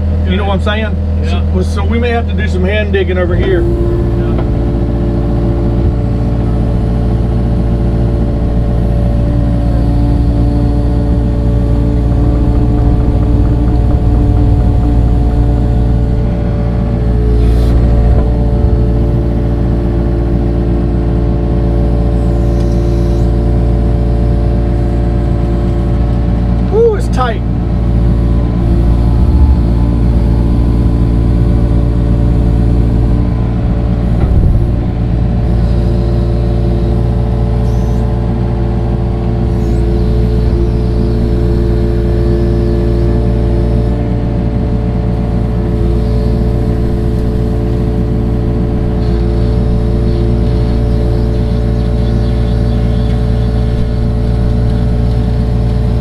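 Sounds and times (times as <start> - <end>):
digging machine engine running: 0.0 - 56.0.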